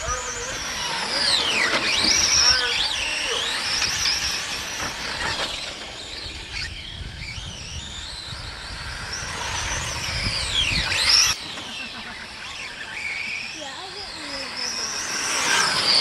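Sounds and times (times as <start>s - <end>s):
rc car motors whining: 0.0s - 16.0s.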